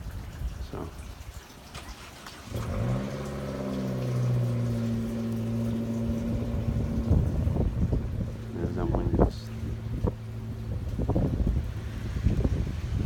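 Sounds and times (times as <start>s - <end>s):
wind buffeting microphone: 0.0s - 1.5s, 2.5s - 13.0s
low mechanical hum: 2.5s - 13.0s.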